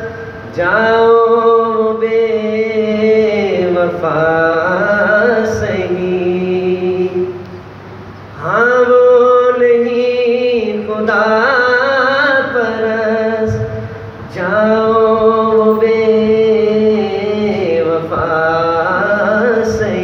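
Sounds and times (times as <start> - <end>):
man singing into a microphone: 0.0 - 7.4, 8.4 - 20.0.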